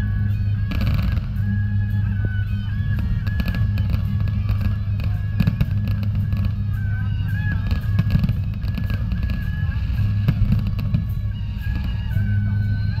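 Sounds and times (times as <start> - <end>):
fireworks popping and crackling: 0.0 - 13.0
music: 0.0 - 13.0.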